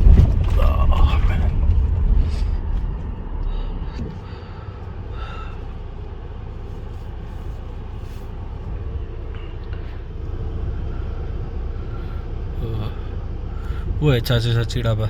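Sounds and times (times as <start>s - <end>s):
vehicle rumbling on rough track: 0.0s - 15.0s.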